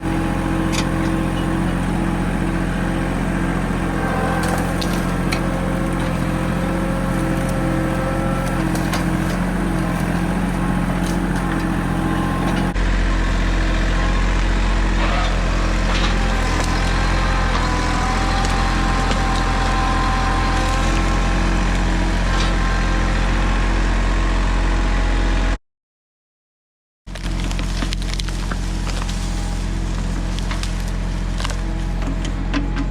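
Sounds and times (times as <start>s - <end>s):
tractor engine running: 0.0s - 25.6s, 27.1s - 32.9s.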